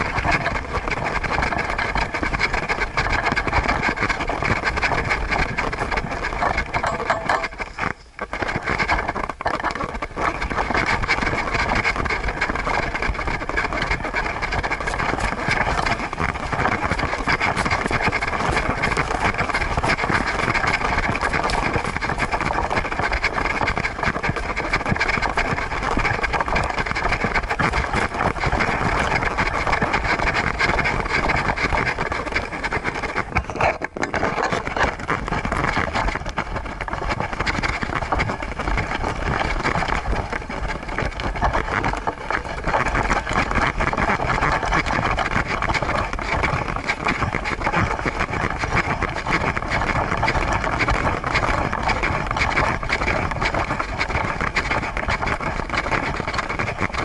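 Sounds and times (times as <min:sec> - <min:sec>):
camera mount rubbing against fur: 0:00.0 - 0:57.0
wind on microphone: 0:00.0 - 0:57.0.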